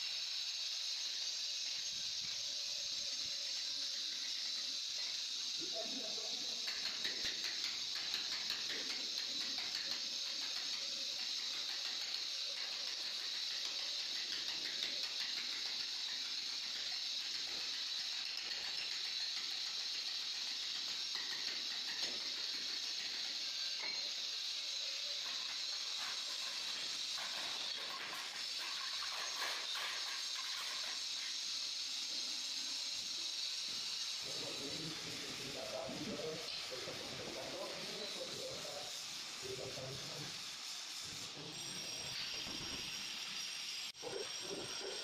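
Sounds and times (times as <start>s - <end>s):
steady high hiss: 0.0s - 45.0s.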